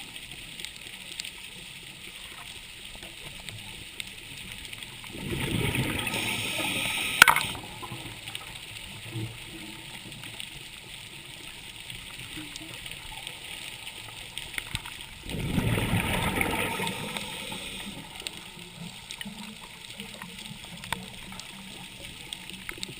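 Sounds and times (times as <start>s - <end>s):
faint hiss: 0.0s - 22.9s
underwater exhaled bubbles: 2.0s - 22.9s.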